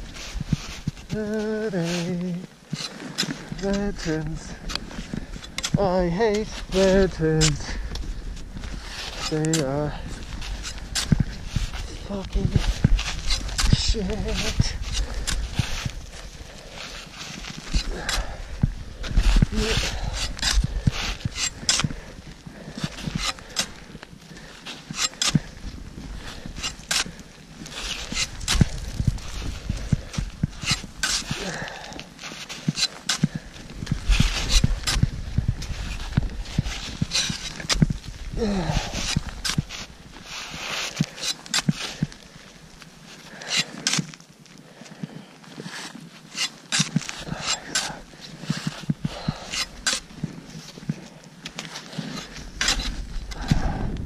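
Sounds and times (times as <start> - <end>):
soft rustling hiss: 0.0 - 53.8
boots crunching in snow and ice: 0.0 - 54.0.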